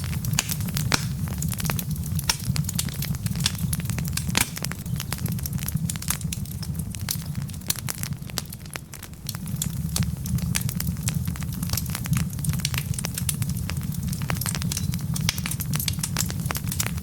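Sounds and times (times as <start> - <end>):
burning logs crackling: 0.0 - 17.0
low rumble of flames: 0.0 - 17.0.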